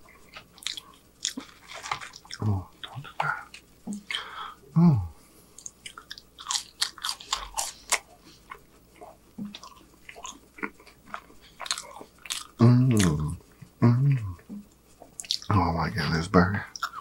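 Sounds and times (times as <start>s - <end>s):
crunchy chewing of fries: 0.0s - 4.4s, 5.6s - 17.0s.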